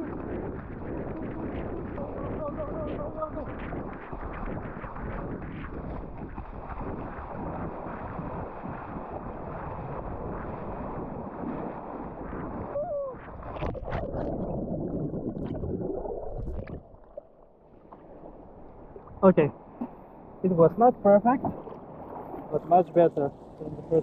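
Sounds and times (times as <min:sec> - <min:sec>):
water splashing: 0:00.0 - 0:20.0, 0:21.3 - 0:24.0.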